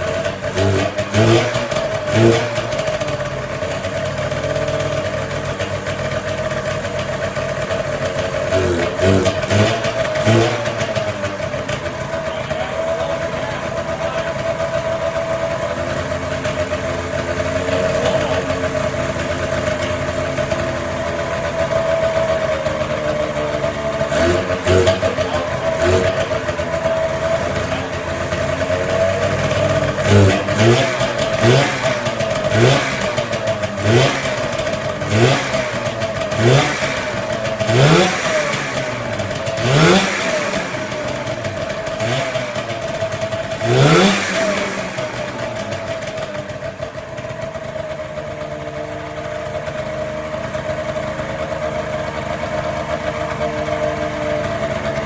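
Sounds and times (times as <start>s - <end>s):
snowmobile engine idling and revving: 0.0s - 55.0s.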